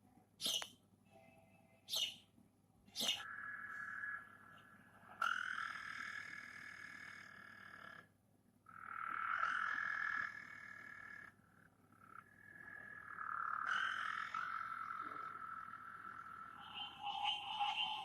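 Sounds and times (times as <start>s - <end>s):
frog calls: 3.0s - 18.0s.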